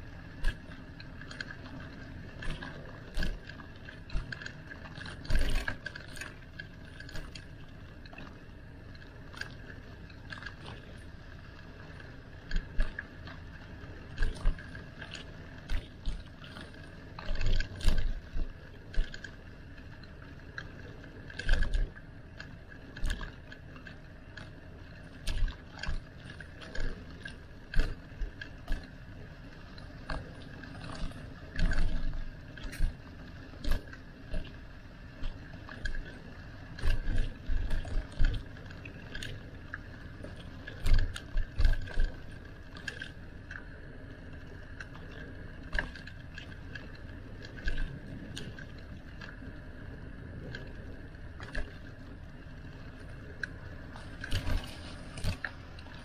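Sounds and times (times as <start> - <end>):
bicycle rattling: 0.0 - 56.0
steady background noise: 0.0 - 56.0.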